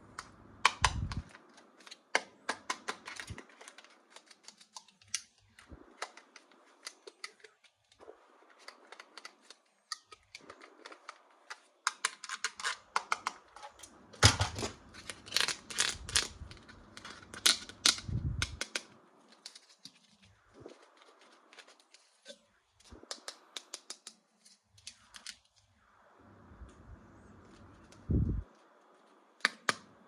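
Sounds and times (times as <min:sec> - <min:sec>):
plastic packaging crackling: 0:01.1 - 0:25.7.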